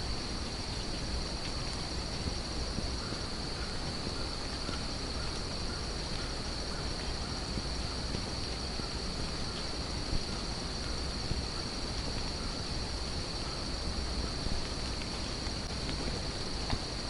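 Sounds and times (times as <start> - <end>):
crickets trilling: 0.0 - 17.0
wind rumble on microphone: 0.0 - 17.0.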